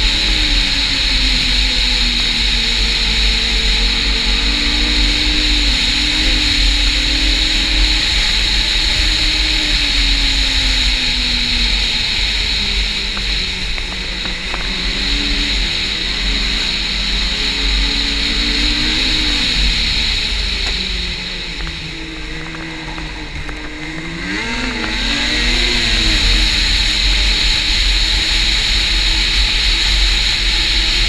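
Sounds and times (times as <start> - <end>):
high whine: 0.0 - 31.0
snowmobile engine running: 0.0 - 31.0
wind rumble on microphone: 0.0 - 31.0.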